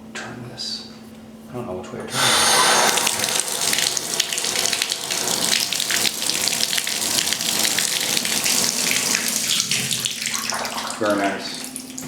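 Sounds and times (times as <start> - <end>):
water splashing into tub: 2.1 - 12.0.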